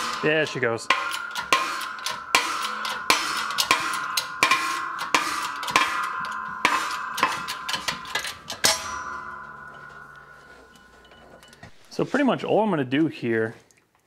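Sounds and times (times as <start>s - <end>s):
hammer blows on steel: 0.0s - 11.4s.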